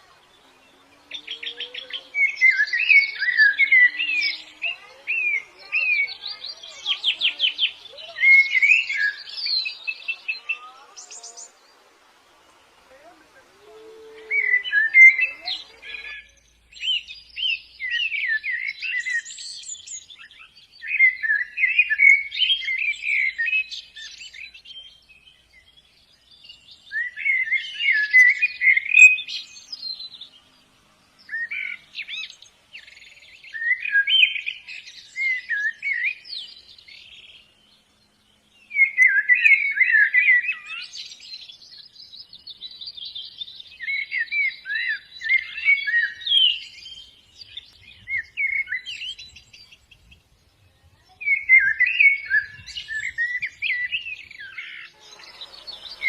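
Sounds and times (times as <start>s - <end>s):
birds twittering chirps: 0.0s - 56.0s.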